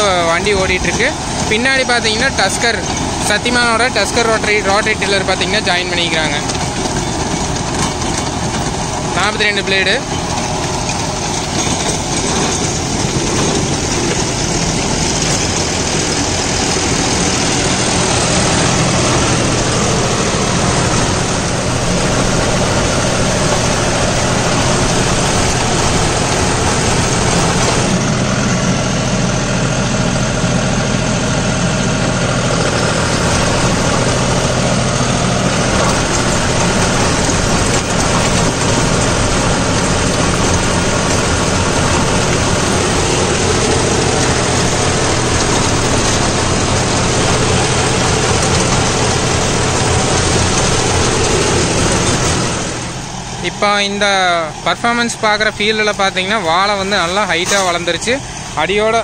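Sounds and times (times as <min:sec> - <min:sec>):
rotary tiller chopping plants: 0:00.0 - 0:29.2, 0:30.4 - 0:59.0
tractor diesel engine running: 0:00.0 - 0:59.0.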